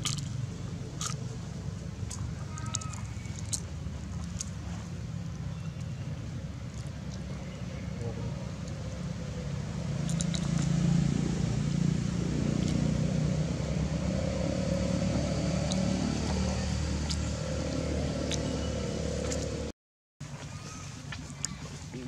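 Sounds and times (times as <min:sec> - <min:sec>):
engine rumbling: 0:00.0 - 0:22.0.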